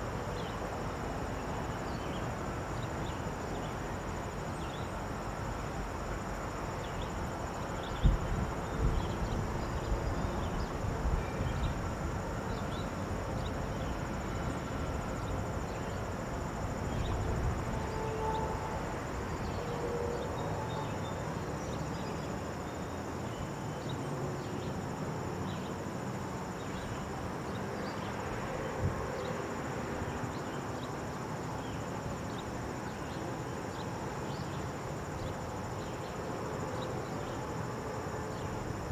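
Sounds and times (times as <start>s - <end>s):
crickets buzzing: 0.0s - 38.9s.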